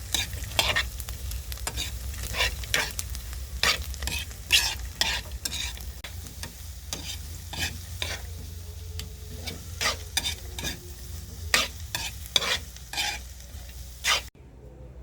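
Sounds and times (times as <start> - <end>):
food sizzling in a pan: 0.0 - 14.3
utensil scraping pan: 0.0 - 14.3.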